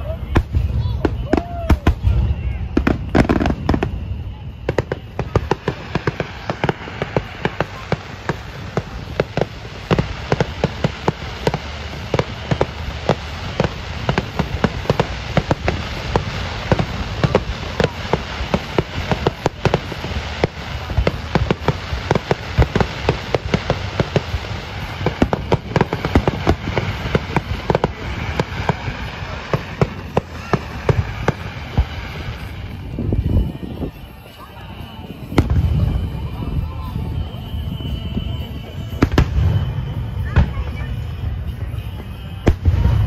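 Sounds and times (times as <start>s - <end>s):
firework bursts and pops: 0.0s - 43.0s
steady low rumble: 1.8s - 43.0s.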